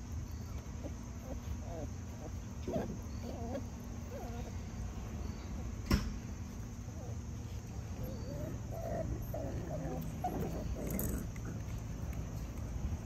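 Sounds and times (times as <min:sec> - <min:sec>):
puppies whining: 0:00.2 - 0:05.8, 0:06.4 - 0:13.0.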